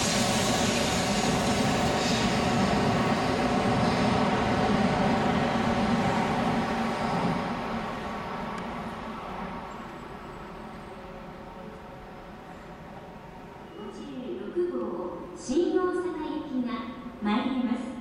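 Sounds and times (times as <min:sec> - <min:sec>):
high-speed train rushing past: 0:00.0 - 0:18.0.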